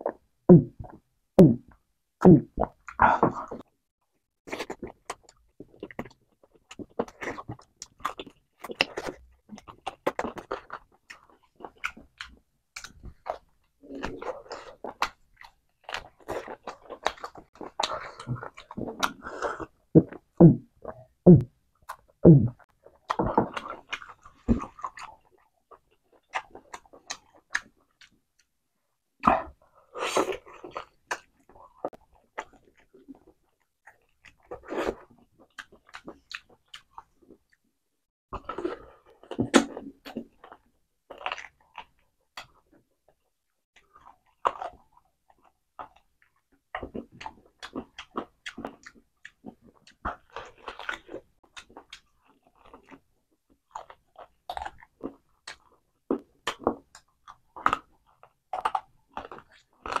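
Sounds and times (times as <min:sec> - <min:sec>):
person chewing chicken: 0:04.5 - 0:28.5, 0:29.2 - 0:37.4, 0:38.4 - 0:42.7, 0:43.8 - 1:00.0.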